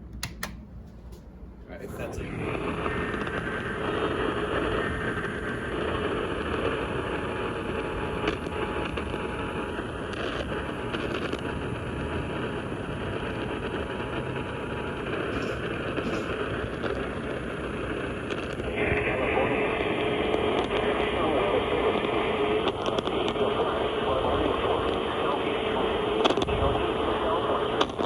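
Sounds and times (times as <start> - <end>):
radio static hiss: 1.6 - 28.0.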